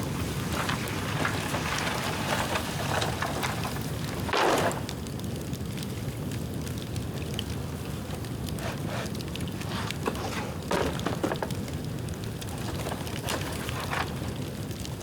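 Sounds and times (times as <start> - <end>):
bonfire crackling and popping: 0.0 - 15.0
steady flames: 0.0 - 15.0.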